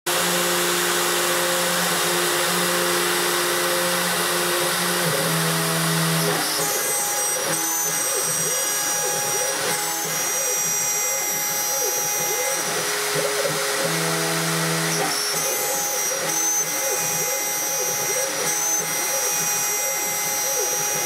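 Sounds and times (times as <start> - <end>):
router cutting metal: 0.1 - 21.0.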